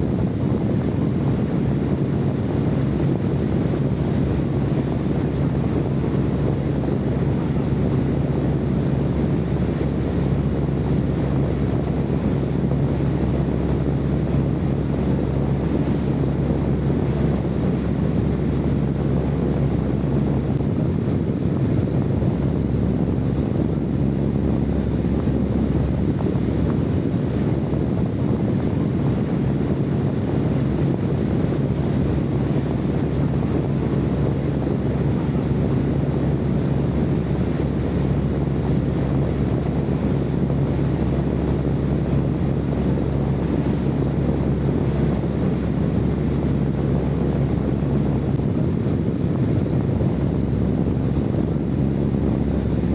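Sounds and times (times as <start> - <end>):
constant hum: 0.0 - 52.9.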